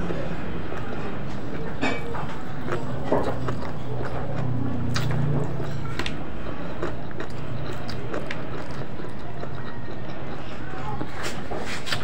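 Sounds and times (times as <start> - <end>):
chewing and mouth smacks: 0.0 - 12.0
steady low hum: 0.0 - 12.0.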